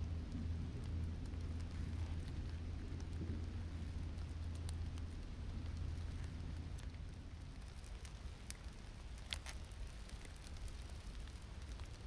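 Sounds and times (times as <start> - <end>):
low rumble: 0.0 - 12.0
twig fire crackling and popping: 0.0 - 12.0.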